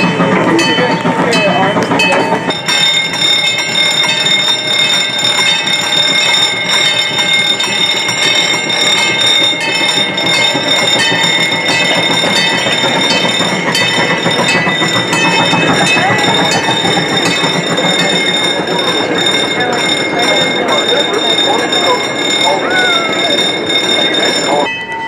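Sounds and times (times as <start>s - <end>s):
crossing signal bell ringing: 0.0s - 25.0s
train rolling: 0.0s - 25.0s.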